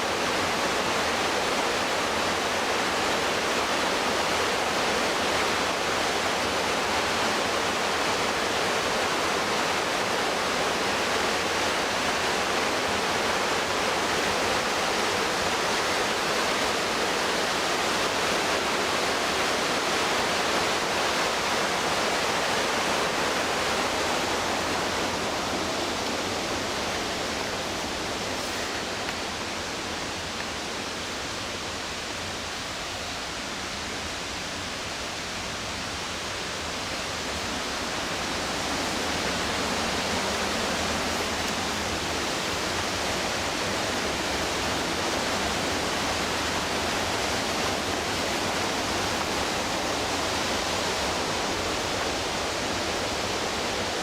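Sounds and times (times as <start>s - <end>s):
whitewater river rushing: 0.0s - 54.0s.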